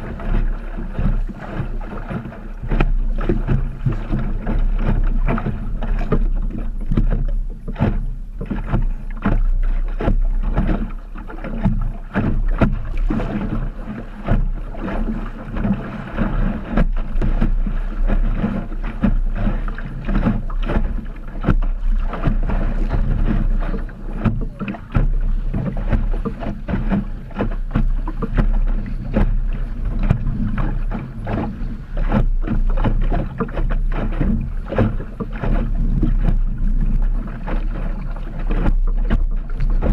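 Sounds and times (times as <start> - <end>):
water slapping against hull: 0.0 - 39.9
wind on microphone: 0.0 - 39.9.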